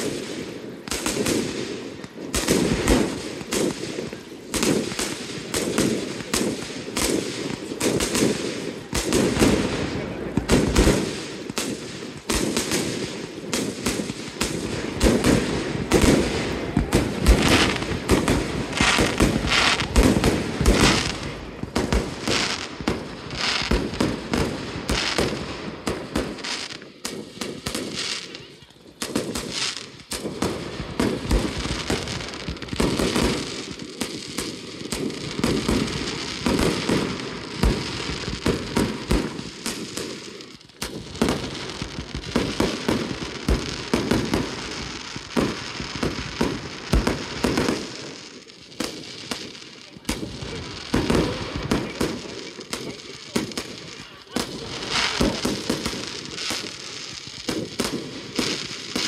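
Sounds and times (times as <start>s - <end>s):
fireworks crackling: 0.0s - 59.0s
fireworks launches and bursts: 0.0s - 59.0s.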